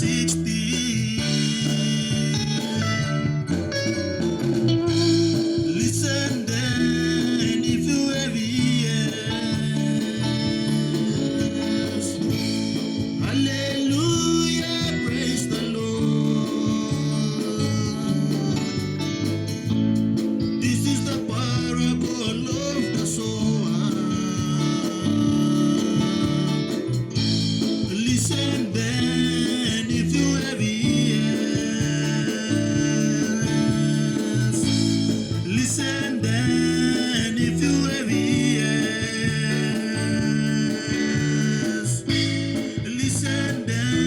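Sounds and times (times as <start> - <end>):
person singing: 0.0 - 19.7, 20.6 - 44.0
bass held chords: 0.0 - 44.0
gospel band music: 0.0 - 44.0
guitar held chords: 0.0 - 44.0.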